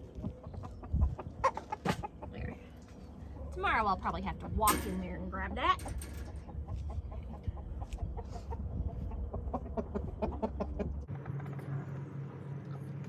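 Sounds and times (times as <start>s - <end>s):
chickens clucking: 0.0s - 11.4s
steady low hum: 0.0s - 13.0s.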